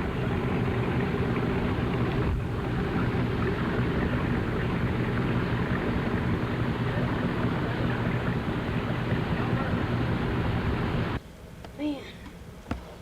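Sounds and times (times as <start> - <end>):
boat engine running steadily: 0.0 - 11.2.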